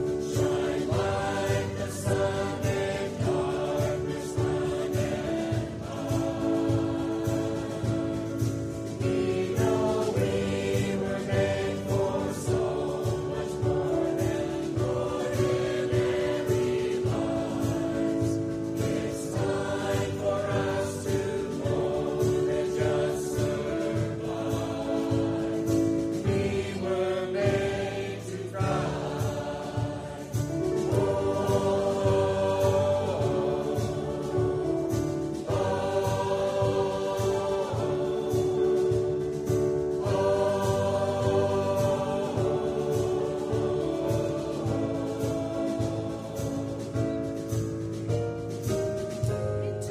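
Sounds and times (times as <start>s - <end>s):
choir singing a hymn: 0.0s - 49.9s
low steady accompaniment: 0.0s - 49.9s.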